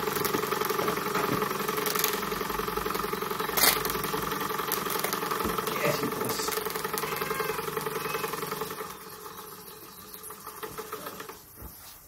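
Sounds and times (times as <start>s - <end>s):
model steam engine running: 0.0s - 11.5s.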